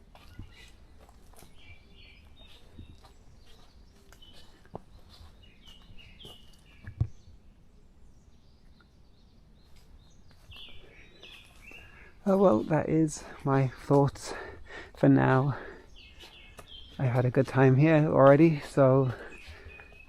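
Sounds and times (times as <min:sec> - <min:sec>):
songbirds chirping faintly: 0:00.0 - 0:20.0.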